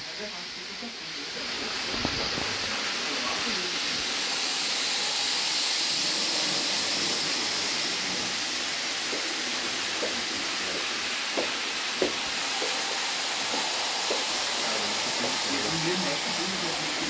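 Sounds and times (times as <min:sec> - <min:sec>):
model trains whirring on track: 0:00.0 - 0:17.0.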